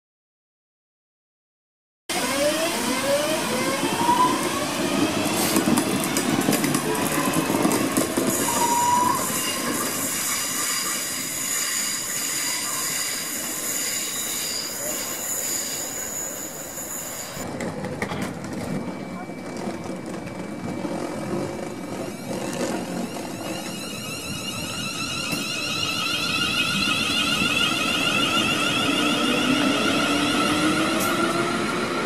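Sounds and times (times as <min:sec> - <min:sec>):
train traction motors whining: 0:02.1 - 0:32.0
wheels rumbling on rails: 0:02.2 - 0:32.0.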